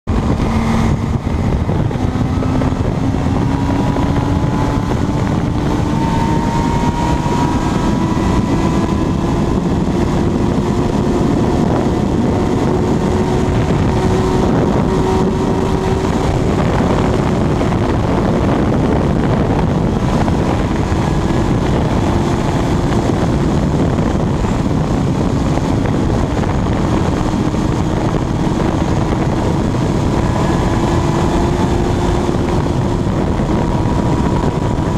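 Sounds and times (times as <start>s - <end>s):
motorcycle engine at full throttle: 0.0s - 34.9s
wind noise on microphone: 0.0s - 34.9s.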